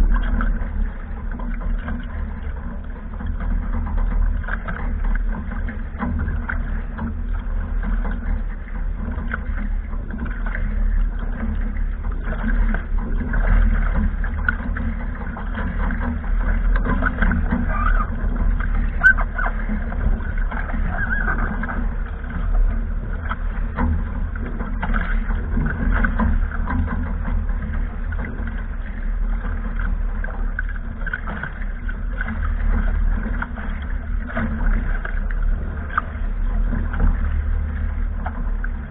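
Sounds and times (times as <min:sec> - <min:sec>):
water splashing against hull: 0:00.0 - 0:38.9
wind rumbling on microphone: 0:00.0 - 0:38.9.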